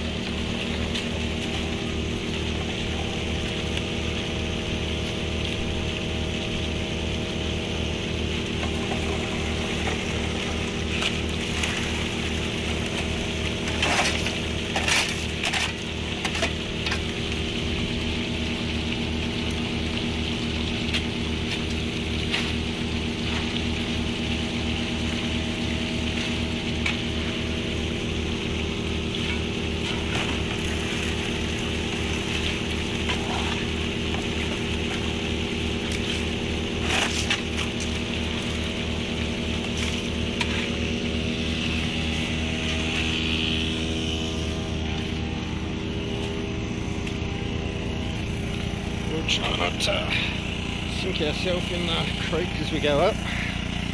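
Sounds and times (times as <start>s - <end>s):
water pump engine running: 0.0s - 53.9s
water rushing through sluice: 0.0s - 53.9s.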